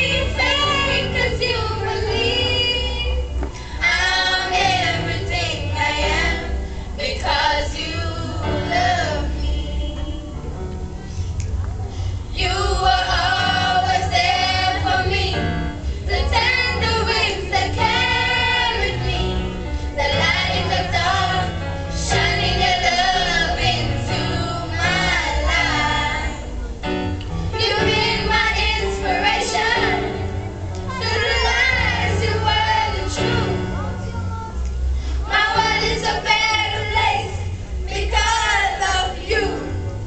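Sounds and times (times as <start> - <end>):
children's choir singing: 0.0 - 10.3, 12.3 - 26.6, 27.6 - 34.0, 35.2 - 39.9.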